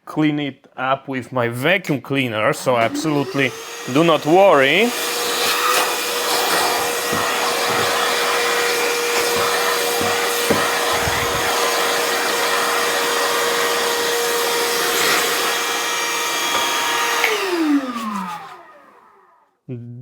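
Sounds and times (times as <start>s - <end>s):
vacuum cleaner motor whine: 2.7s - 19.4s.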